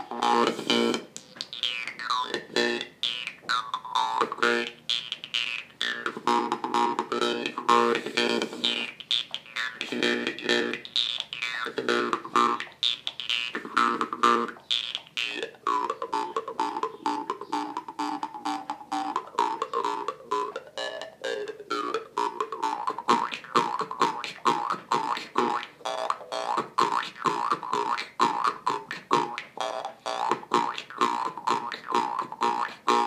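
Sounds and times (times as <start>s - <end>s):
jew's harp twanging: 0.0s - 33.0s.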